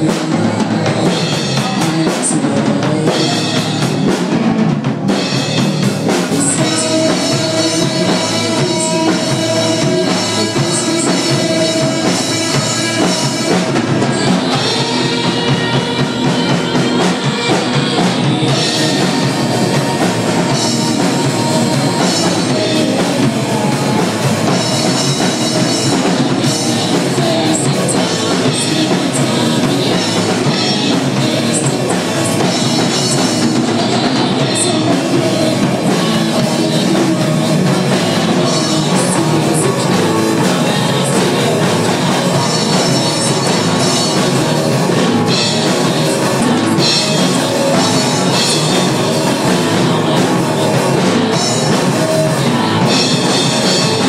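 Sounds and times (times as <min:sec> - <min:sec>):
drums and cymbals: 0:00.0 - 0:54.0
live rock band: 0:00.0 - 0:54.0.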